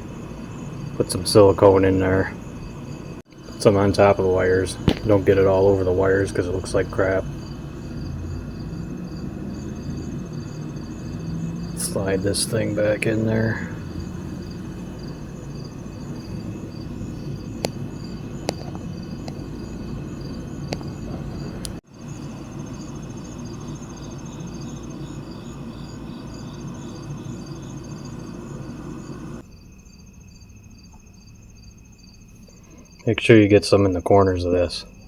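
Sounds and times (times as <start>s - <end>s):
low background rumble: 0.0s - 29.4s
crickets chirping: 0.0s - 35.0s.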